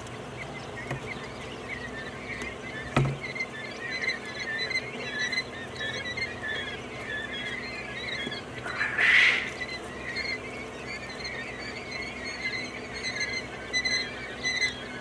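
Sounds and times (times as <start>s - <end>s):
quail chirping: 0.0s - 15.0s.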